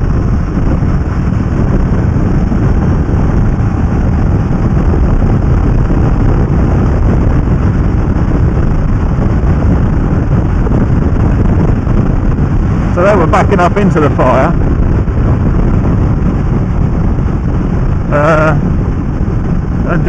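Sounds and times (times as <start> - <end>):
motorcycle road noise: 0.0 - 20.0
wind rush: 0.0 - 20.0.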